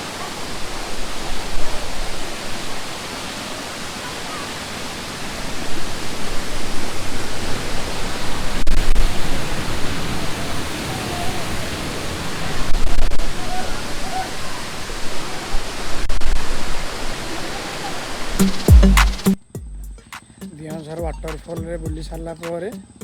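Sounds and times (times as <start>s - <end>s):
waterfall roaring: 0.0s - 19.2s.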